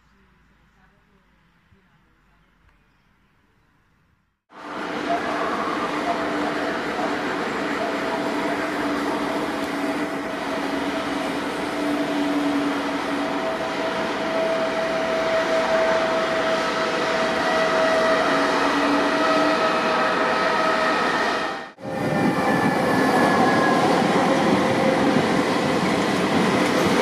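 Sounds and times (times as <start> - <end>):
train wheels rushing on rails: 4.5 - 27.0.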